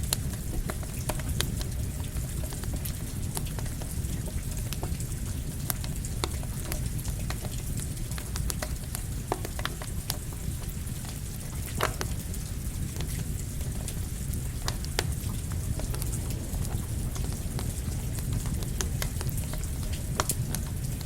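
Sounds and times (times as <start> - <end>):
campfire crackling and popping: 0.0 - 21.0
rain hissing: 0.0 - 21.0.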